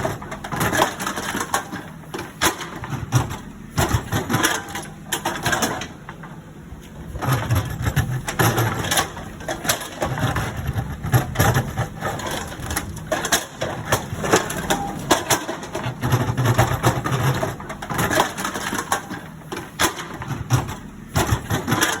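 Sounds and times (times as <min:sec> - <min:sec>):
diesel engine hum: 0:00.0 - 0:22.0
excavator bucket crunching soil: 0:00.0 - 0:22.0.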